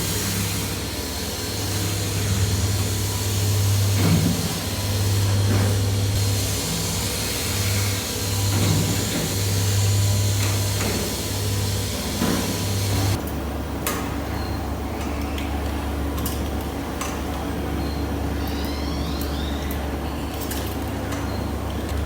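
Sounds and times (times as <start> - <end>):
machinery humming: 0.0 - 22.0.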